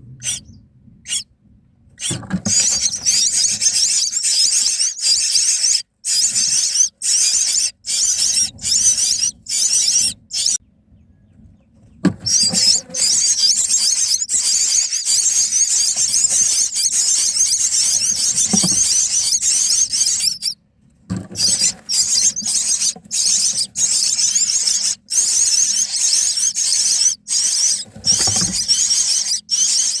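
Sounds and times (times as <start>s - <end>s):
nestlings shrill begging calls: 0.2s - 1.2s, 2.0s - 10.6s, 12.2s - 20.6s, 21.3s - 30.0s.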